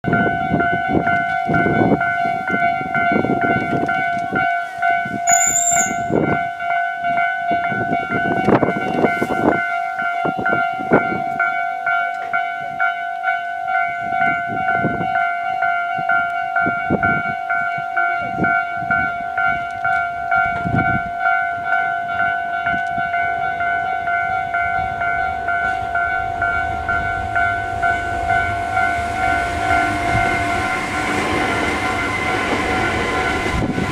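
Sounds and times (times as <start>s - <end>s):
level crossing warning bell: 0.0s - 33.9s
train running noise: 0.0s - 33.9s.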